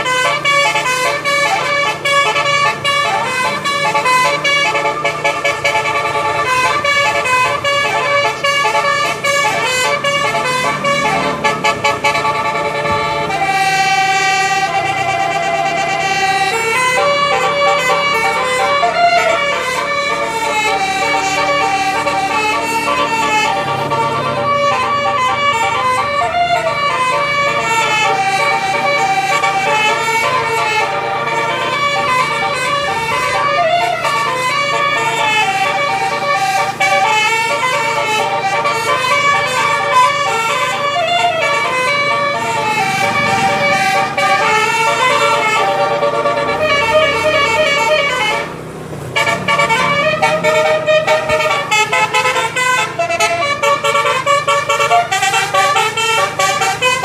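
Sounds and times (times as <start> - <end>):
musical air horn melody: 0.0 - 57.0.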